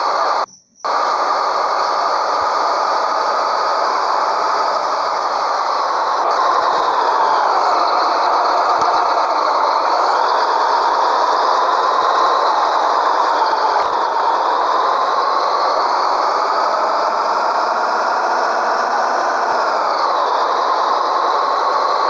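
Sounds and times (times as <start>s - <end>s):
truck diesel engine droning: 0.9s - 22.0s.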